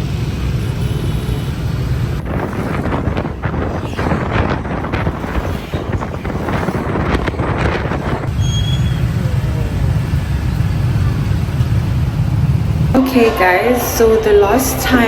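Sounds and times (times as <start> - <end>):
vehicle and road noise: 0.0 - 15.0
wind buffeting microphone: 1.6 - 15.0.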